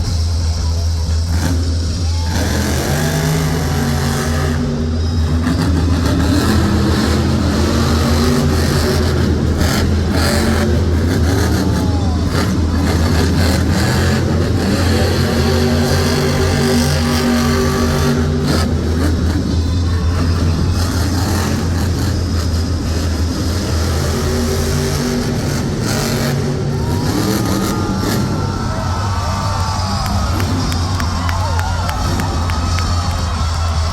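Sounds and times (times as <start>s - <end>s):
monster truck engine revving: 0.0s - 33.9s.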